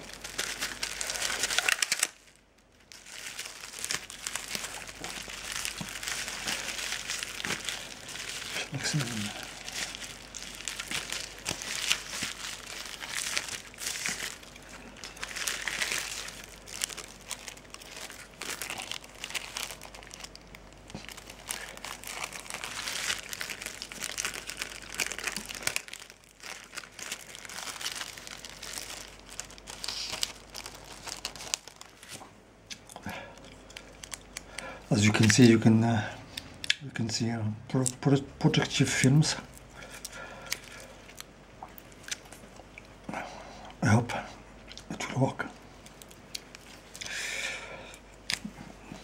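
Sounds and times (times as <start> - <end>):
plastic packaging crinkling: 0.0 - 35.8, 37.7 - 42.5, 45.5 - 47.2.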